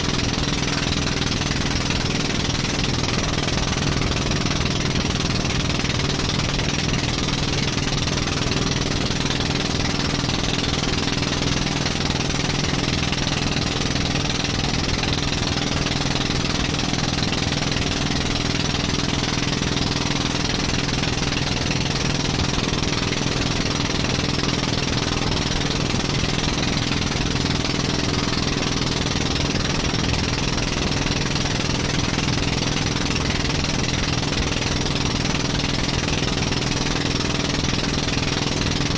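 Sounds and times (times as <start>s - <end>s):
boat engine droning: 0.0s - 38.9s
water splashing against hull: 0.0s - 38.9s.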